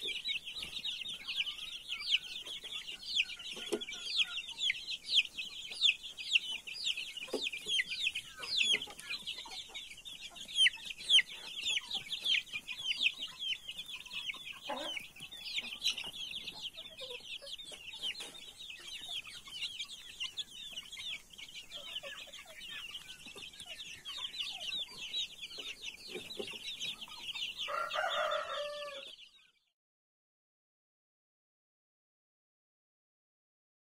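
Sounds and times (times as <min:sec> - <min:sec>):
chicks peeping: 0:00.0 - 0:29.7.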